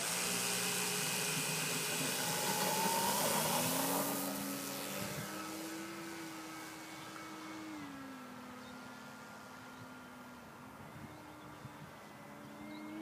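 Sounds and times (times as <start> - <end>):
propeller aircraft engine: 0.0 - 13.0.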